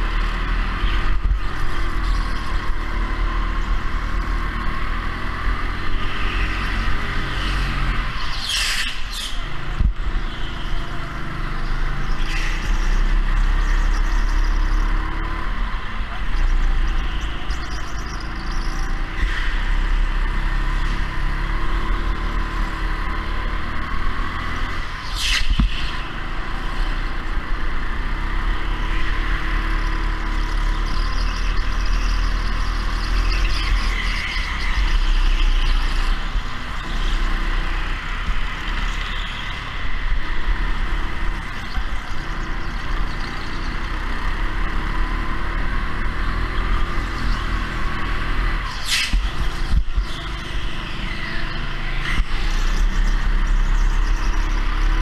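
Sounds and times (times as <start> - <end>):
go-kart engine rumbling: 0.0 - 55.0.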